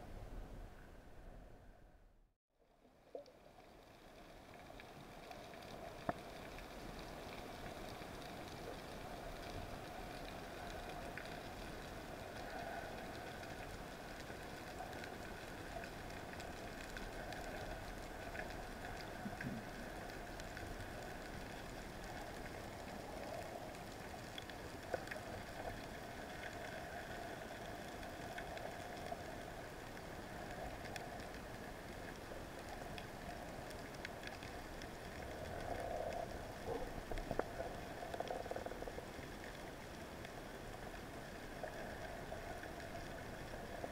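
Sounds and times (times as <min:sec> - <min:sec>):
underwater crackles and clicks: 0:02.9 - 0:43.9.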